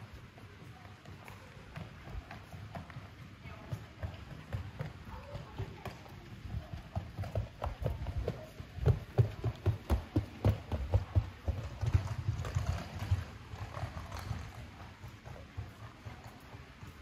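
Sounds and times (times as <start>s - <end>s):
suitcase wheels on paving stones: 0.0s - 17.0s.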